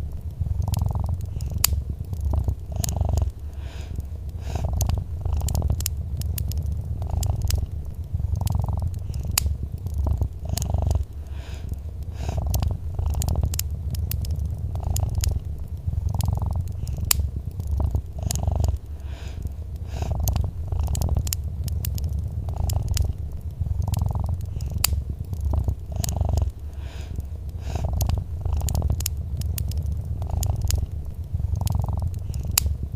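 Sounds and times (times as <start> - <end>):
cat purring: 0.0 - 32.9
fireplace fire crackling: 0.0 - 32.9.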